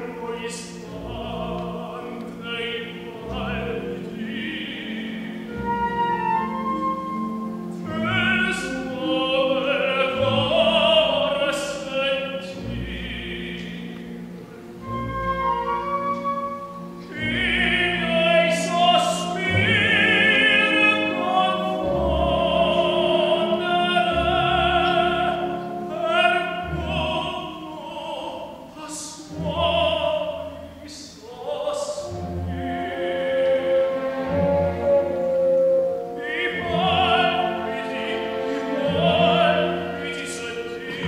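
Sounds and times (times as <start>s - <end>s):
operatic tenor singing: 0.0s - 41.0s
string orchestra: 0.0s - 41.0s.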